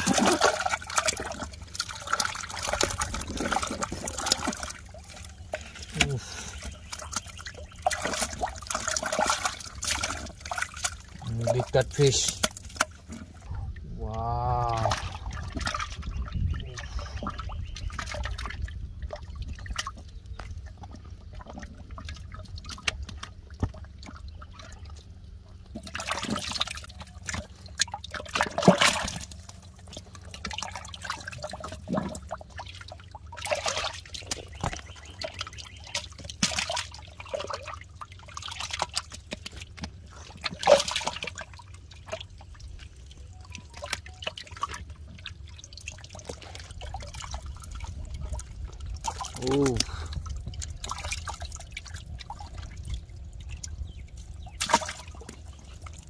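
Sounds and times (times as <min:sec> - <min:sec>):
water sloshing and splashing: 0:00.0 - 0:56.0
water trickling: 0:00.0 - 0:56.0.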